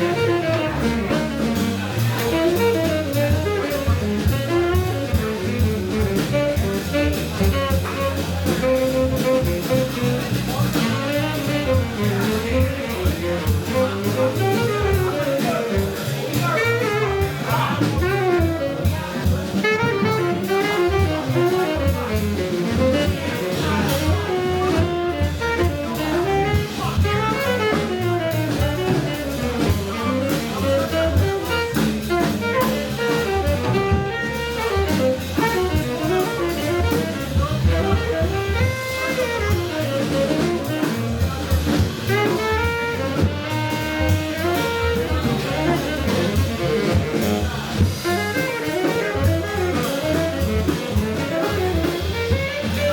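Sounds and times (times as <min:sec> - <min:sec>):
live jazz band playing: 0:00.0 - 0:52.9.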